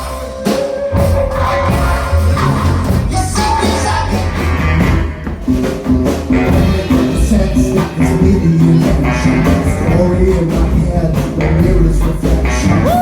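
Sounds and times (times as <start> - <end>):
baritone saxophone: 0.0 - 13.0
rock band playing: 0.0 - 13.0.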